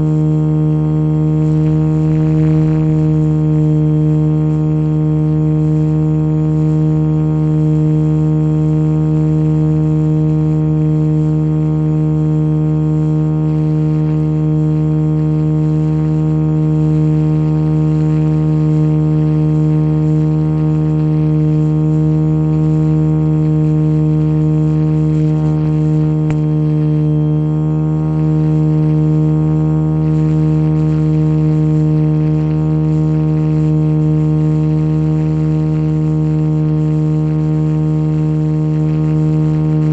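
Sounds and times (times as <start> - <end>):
model helicopter buzzing drone: 0.0 - 39.9.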